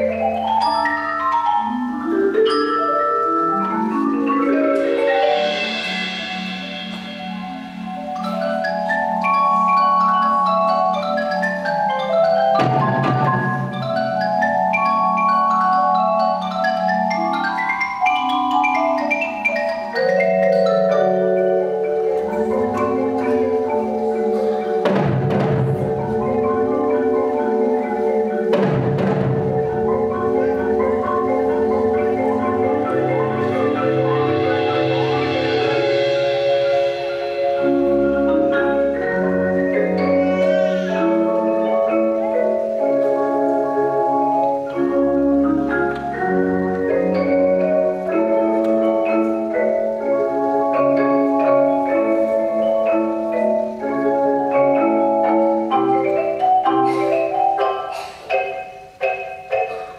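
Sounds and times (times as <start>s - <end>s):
loud marimba strokes: 0.0s - 59.9s
marimbas played with mallets: 0.0s - 59.9s.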